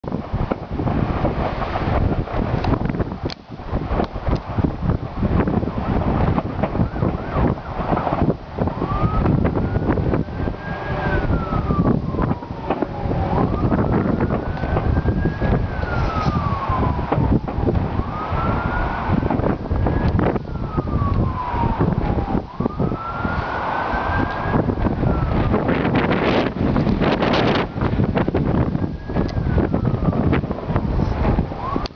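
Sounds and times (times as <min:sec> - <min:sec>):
wind rumble on microphone: 0:00.0 - 0:31.9
emergency siren wailing: 0:00.1 - 0:31.9.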